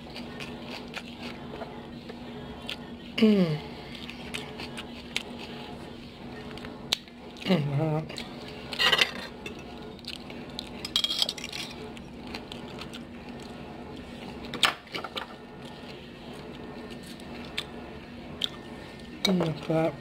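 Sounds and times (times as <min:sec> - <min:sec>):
washing machine hum: 0:00.0 - 0:20.0.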